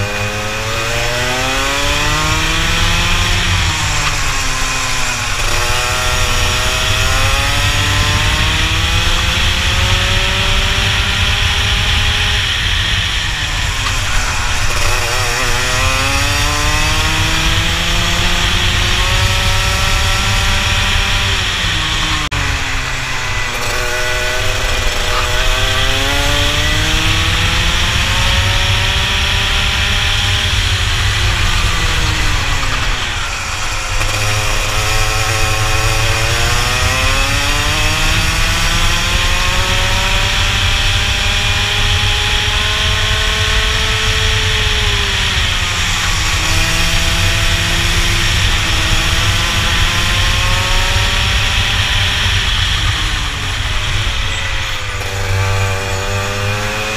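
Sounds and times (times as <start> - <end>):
kart engine revving: 0.0 - 56.9
wind and tyre rumble: 0.0 - 56.9.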